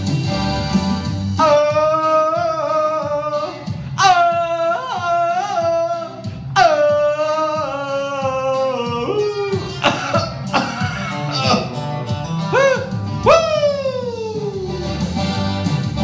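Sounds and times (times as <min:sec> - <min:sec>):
faint backing music: 0:00.0 - 0:16.0
jungle yell with yodel breaks: 0:00.0 - 0:16.0.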